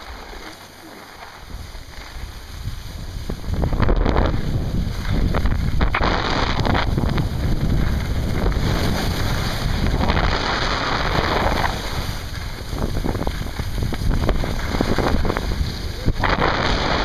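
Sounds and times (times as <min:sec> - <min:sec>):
skis scraping on snow: 0:00.0 - 0:17.0
wind rushing over microphone: 0:01.4 - 0:17.0.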